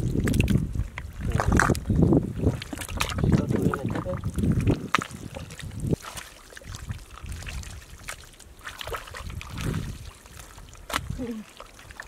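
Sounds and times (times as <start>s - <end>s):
mud squelching: 0.0s - 12.0s
muddy water trickling: 0.0s - 12.0s
small splashes: 0.0s - 12.0s.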